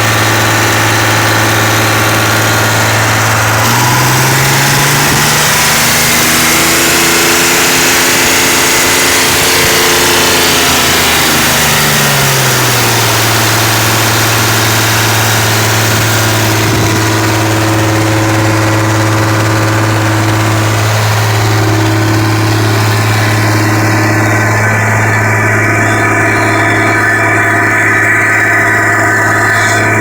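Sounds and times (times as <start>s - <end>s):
air compressor engine running: 0.0s - 30.0s.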